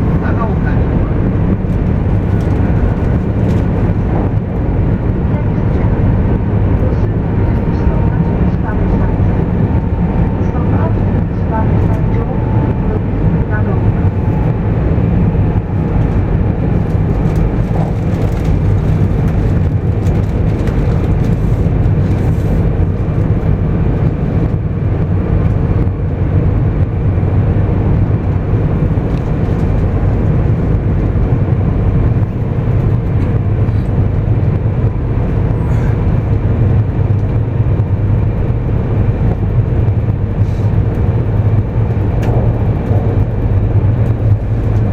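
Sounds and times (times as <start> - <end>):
train cabin rumble: 0.0 - 44.9.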